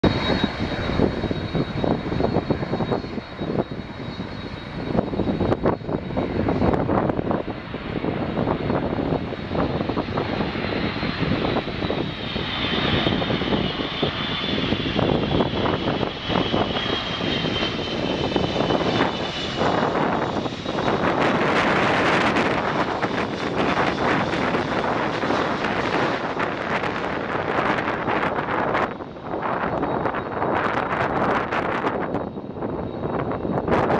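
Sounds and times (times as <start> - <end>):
high engine whine: 0.0 - 33.9
jet engines rumbling: 0.0 - 33.9.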